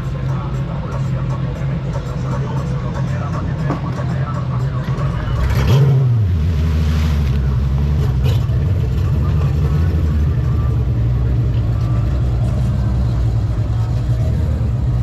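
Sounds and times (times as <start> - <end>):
boat engine running low: 0.0 - 15.0.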